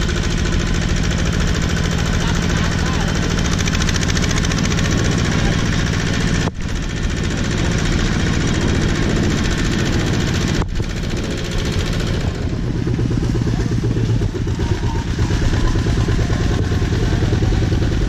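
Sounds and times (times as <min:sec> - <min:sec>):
diesel engine chugging: 0:00.0 - 0:18.0.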